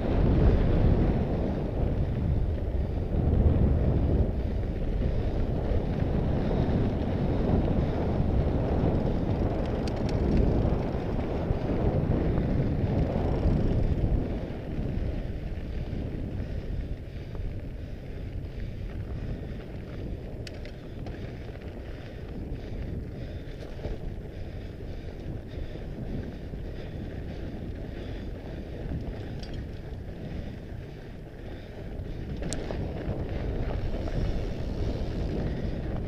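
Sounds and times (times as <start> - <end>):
bike tyres rolling on gravel: 0.0 - 36.0
wind buffeting microphone: 0.0 - 36.0.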